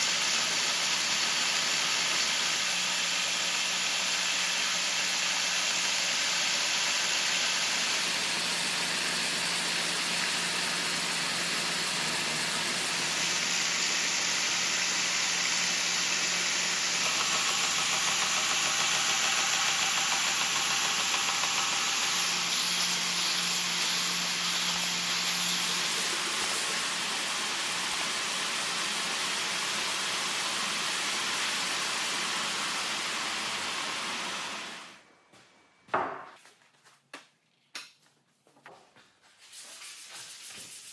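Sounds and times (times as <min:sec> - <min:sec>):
workshop machine hissing: 0:00.0 - 0:35.0.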